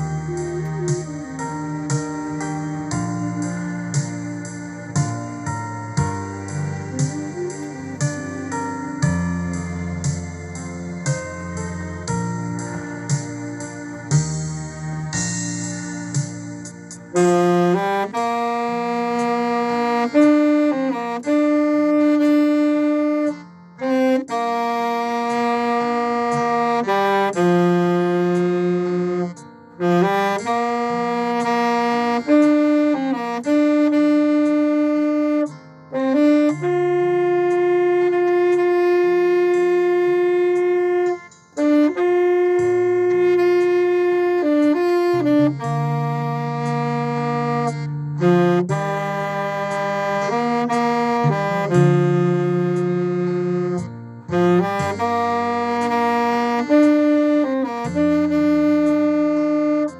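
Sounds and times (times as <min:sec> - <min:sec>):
low backing accompaniment: 0:00.0 - 0:59.9
slow saxophone-like melody: 0:00.0 - 0:59.9.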